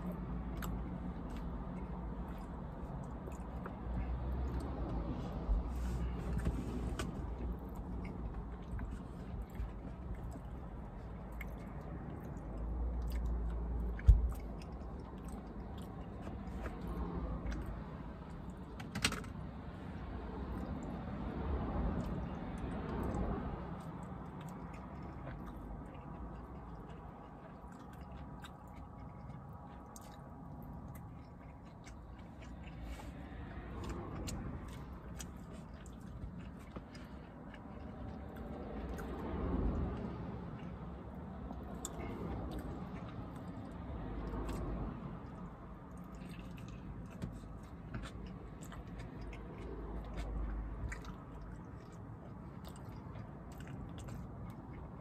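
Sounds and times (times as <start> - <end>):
person chewing sandwich: 0.0 - 55.0.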